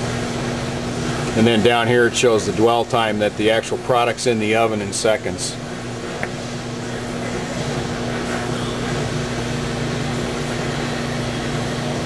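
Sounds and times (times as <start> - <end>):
industrial machine hum and whir: 0.0 - 12.0.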